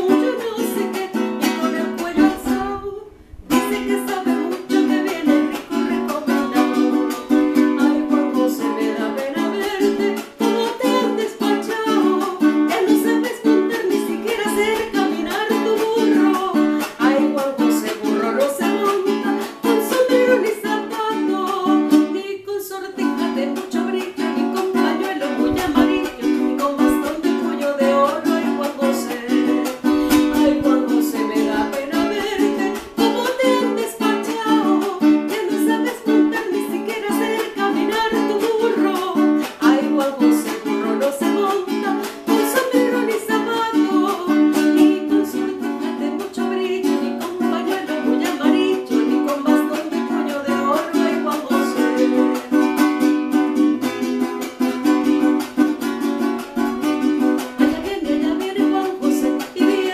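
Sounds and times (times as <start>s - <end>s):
strummed string instrument: 0.0s - 59.9s
woman singing: 0.0s - 59.9s.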